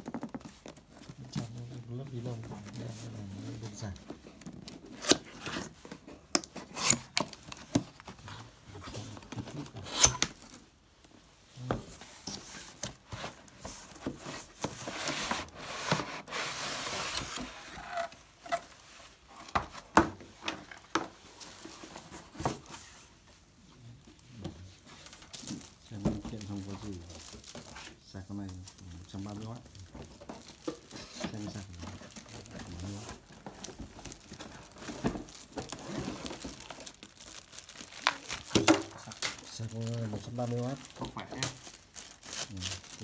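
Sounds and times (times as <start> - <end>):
cardboard rubbing and rustling: 0.0 - 10.6, 11.6 - 20.0, 24.6 - 43.0
cardboard packaging being handled: 0.0 - 10.8, 11.5 - 43.0.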